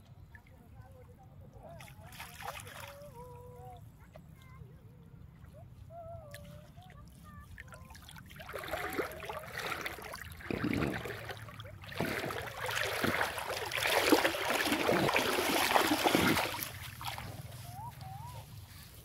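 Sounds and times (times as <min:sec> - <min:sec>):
water sloshing and splashing: 0:00.0 - 0:03.3, 0:05.4 - 0:18.8
person wading through water: 0:01.5 - 0:03.9, 0:05.4 - 0:19.0.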